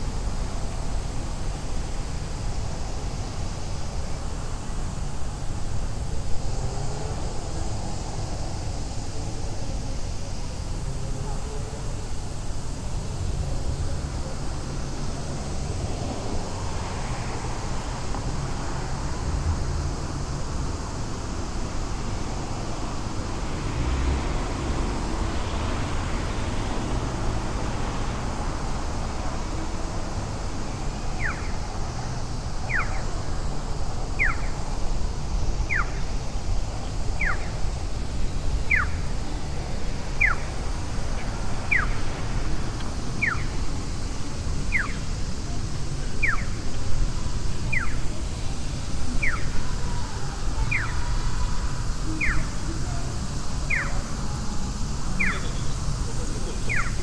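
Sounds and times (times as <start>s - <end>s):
city traffic rumble: 0.0s - 57.0s.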